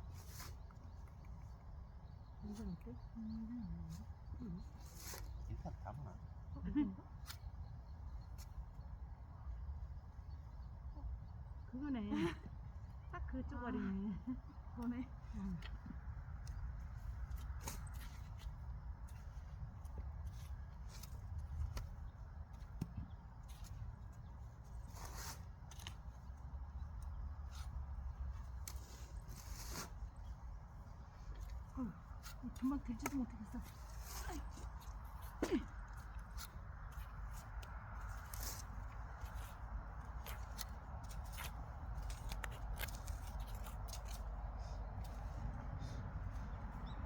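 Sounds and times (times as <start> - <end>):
digging through soil and vines: 0.0 - 11.4, 13.7 - 47.0.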